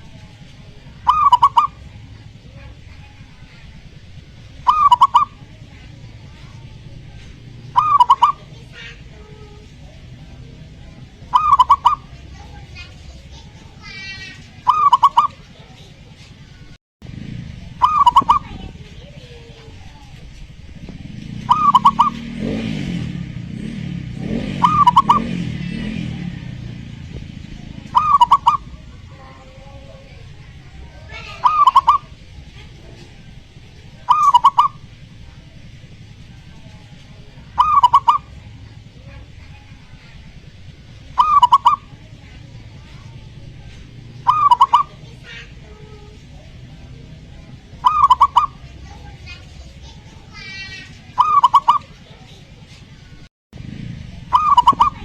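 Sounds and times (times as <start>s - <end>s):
dove cooing: 0.0s - 16.6s, 17.3s - 23.3s, 24.2s - 26.7s, 27.3s - 53.1s, 53.8s - 55.0s.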